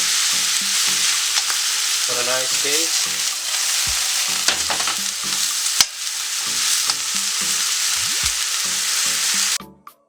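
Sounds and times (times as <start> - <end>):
food sizzling in frying pan: 0.0 - 9.6.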